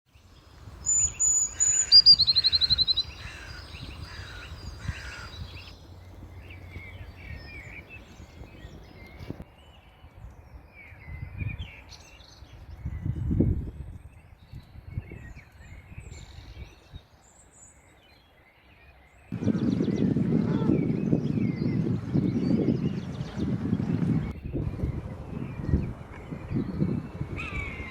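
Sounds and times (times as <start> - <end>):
songbirds singing: 0.1 - 27.9.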